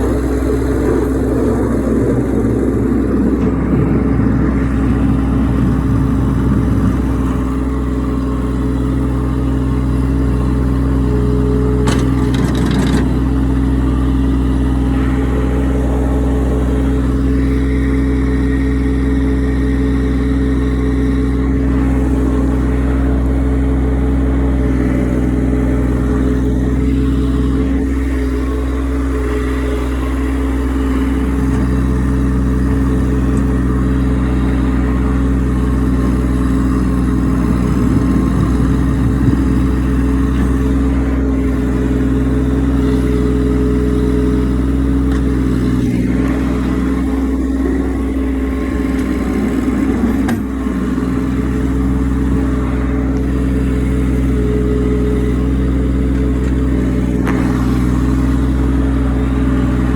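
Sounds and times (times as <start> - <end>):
engine knocks: 0.0 - 59.9
tractor engine running: 0.0 - 59.9.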